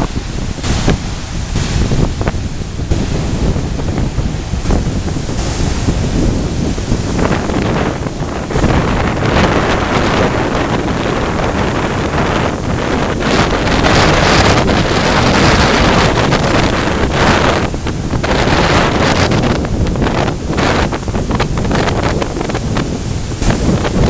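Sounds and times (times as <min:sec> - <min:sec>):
ocean surf: 0:00.0 - 0:24.0
wind buffeting microphone: 0:00.0 - 0:24.0.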